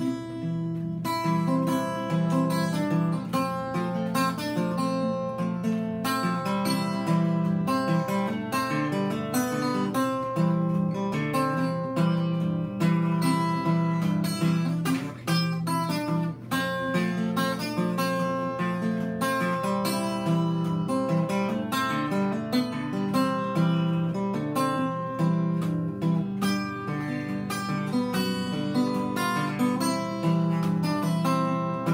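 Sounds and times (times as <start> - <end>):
acoustic guitar blues: 0.0 - 31.9.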